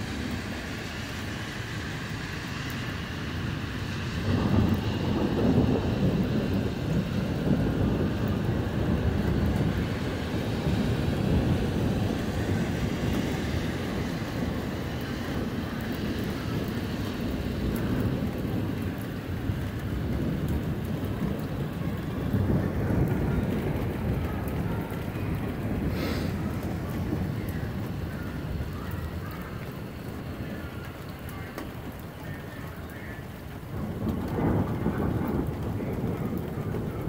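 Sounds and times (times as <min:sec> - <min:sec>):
falling rain: 0:00.0 - 0:37.0
rolling thunder: 0:00.0 - 0:37.0.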